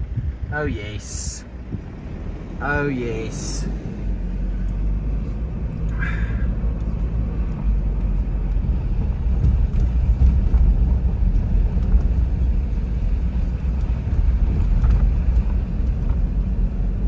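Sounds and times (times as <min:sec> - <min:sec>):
car driving on dirt road: 0:00.0 - 0:17.0.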